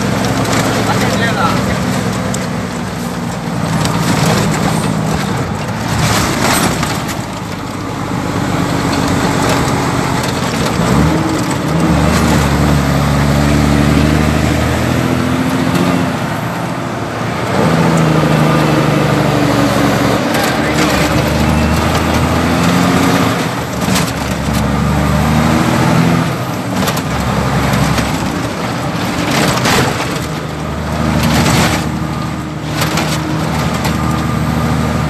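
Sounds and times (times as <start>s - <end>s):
diesel truck engine under load: 0.0s - 35.0s
truck cab rattling and knocking: 0.0s - 35.0s.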